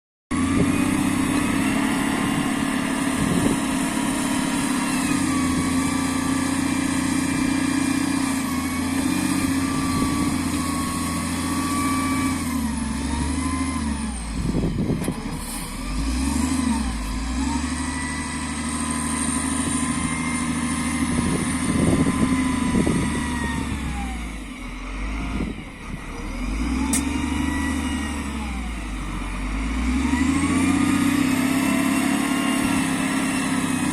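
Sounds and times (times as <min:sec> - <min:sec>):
diesel engine revving: 0:00.3 - 0:33.9.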